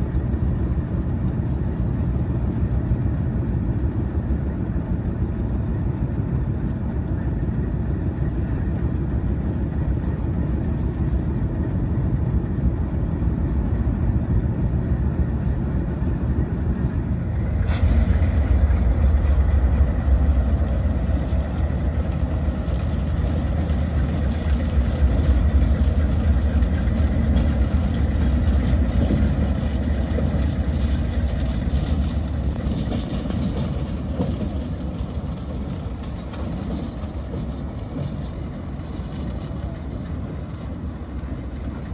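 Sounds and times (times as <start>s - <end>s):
diesel locomotive engine rumbling: 0.0s - 41.9s.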